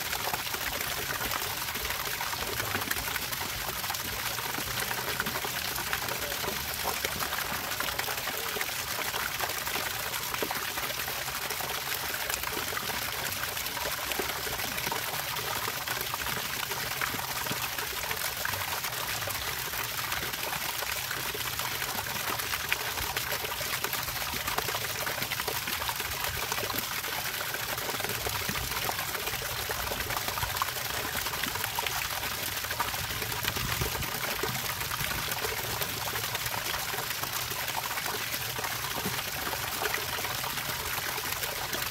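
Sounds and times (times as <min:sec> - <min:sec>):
water trickling and splashing: 0:00.0 - 0:41.9.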